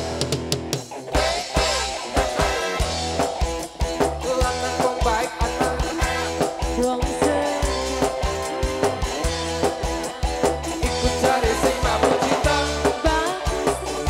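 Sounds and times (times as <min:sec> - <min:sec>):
live band playing: 0:00.0 - 0:14.0
steady drum beat: 0:00.0 - 0:14.0.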